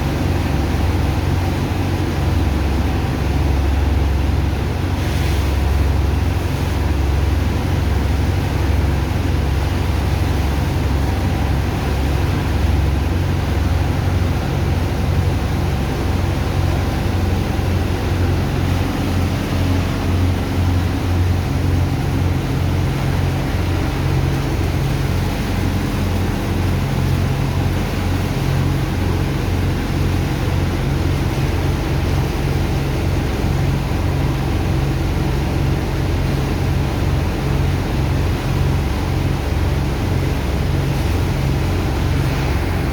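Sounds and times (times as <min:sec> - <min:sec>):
pump engine throbbing drone: 0:00.0 - 0:42.9
rushing water and sand: 0:00.0 - 0:42.9.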